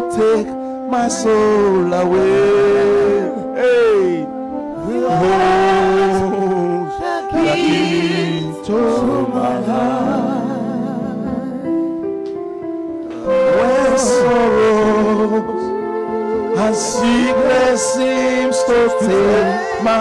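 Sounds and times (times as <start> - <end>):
person singing gospel: 0.0 - 12.0, 13.2 - 20.0
sustained keyboard chords: 0.0 - 20.0.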